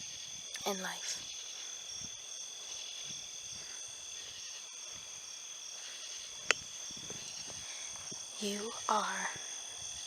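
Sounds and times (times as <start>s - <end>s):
crickets and insects trilling: 0.0s - 10.0s
pulsing insect call: 0.0s - 10.0s.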